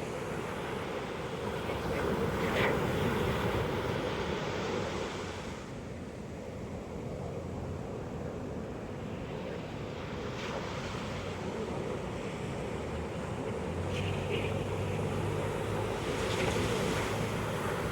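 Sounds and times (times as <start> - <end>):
ocean waves breaking on beach: 0.0 - 17.9.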